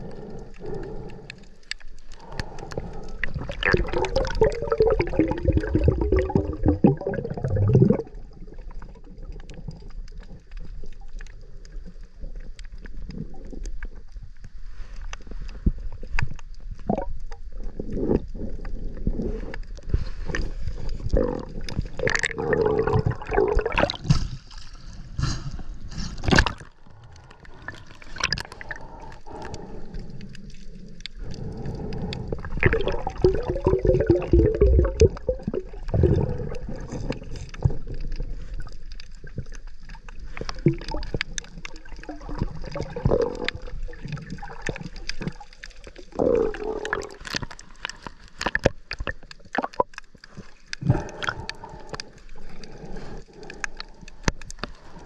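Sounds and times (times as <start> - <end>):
water sloshing and gurgling: 0.0 - 55.0.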